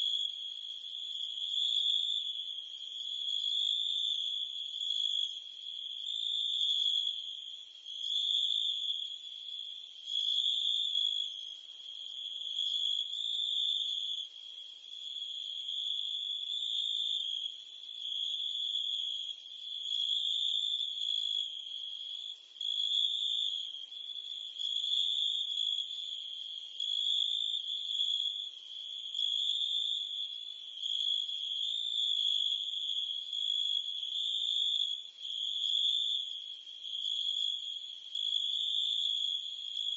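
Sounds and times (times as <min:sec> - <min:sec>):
crickets and cicadas chirping: 0:00.0 - 0:39.9.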